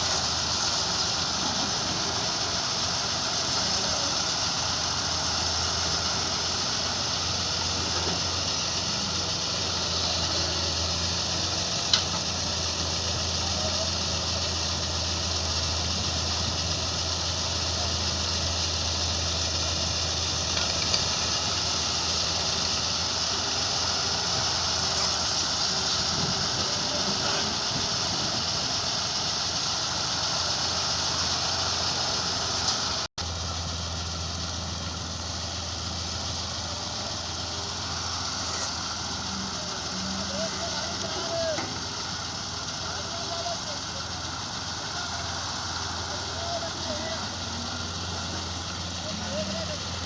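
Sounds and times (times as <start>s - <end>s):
heavy machinery engines running: 0.0s - 50.0s.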